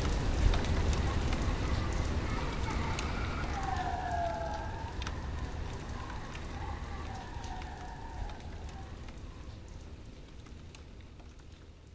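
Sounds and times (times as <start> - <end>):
steady rain falling: 0.0 - 11.9
ticks of raindrops: 0.0 - 11.9.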